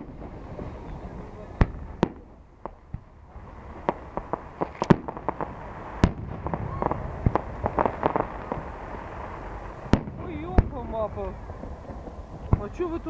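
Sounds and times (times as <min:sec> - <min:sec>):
fireworks bangs and pops: 0:00.0 - 0:13.0
fireworks crackle: 0:00.0 - 0:13.0.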